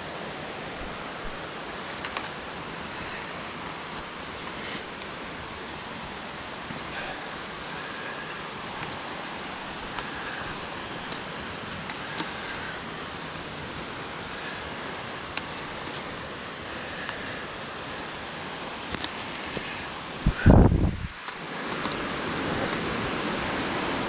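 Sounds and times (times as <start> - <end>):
mountain stream rushing: 0.0 - 24.0.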